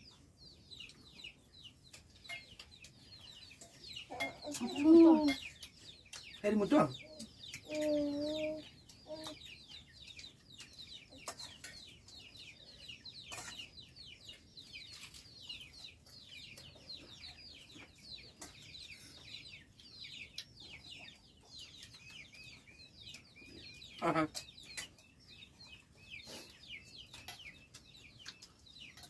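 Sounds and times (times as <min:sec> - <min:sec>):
chicks peeping: 0:00.0 - 0:29.0.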